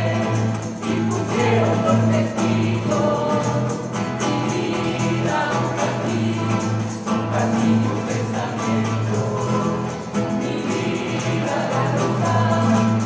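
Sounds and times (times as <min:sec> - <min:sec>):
acoustic guitars strumming: 0:00.0 - 0:13.0
mixed choir singing: 0:00.0 - 0:13.0.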